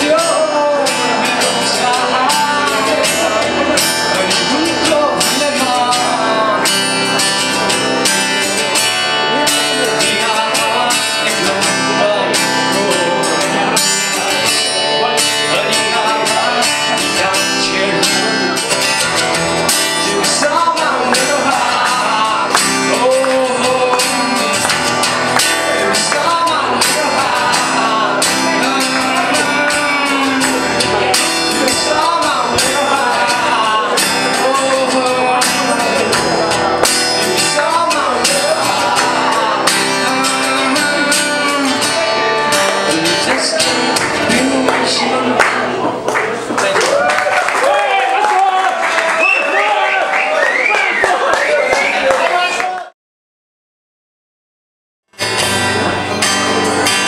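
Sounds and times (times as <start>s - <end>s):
man singing: 0.0s - 46.0s
acoustic guitar strumming: 0.0s - 46.6s, 55.1s - 57.0s.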